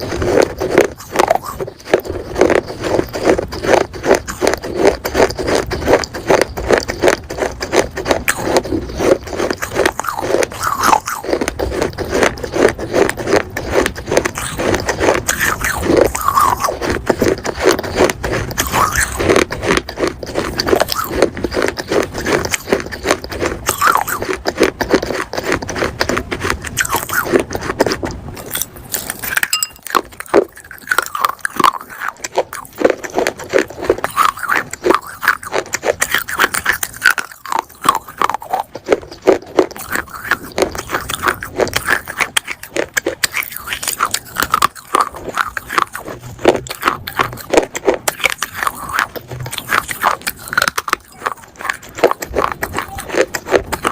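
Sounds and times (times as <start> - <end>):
clay pieces being chewed: 0.0 - 53.9.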